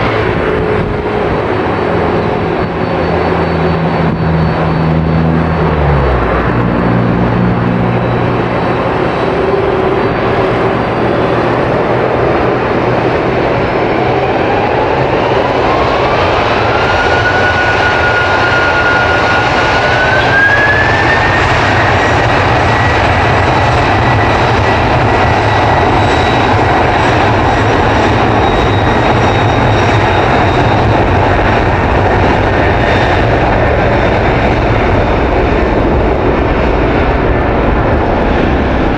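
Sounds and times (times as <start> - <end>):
jet engines at takeoff: 0.0 - 38.9.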